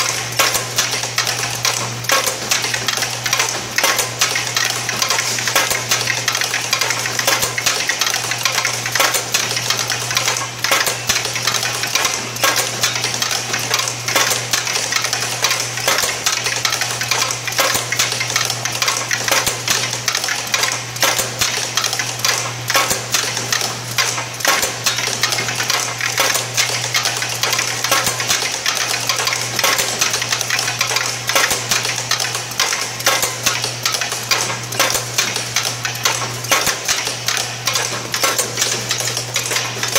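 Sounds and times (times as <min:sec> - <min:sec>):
packaging machine clatter: 0:00.0 - 0:39.9.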